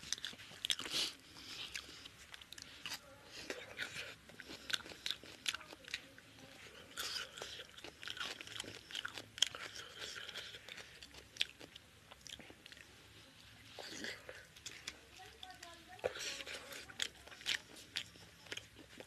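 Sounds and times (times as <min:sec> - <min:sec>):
open mouth chewing: 0:00.0 - 0:06.0, 0:06.7 - 0:12.9, 0:16.0 - 0:19.0.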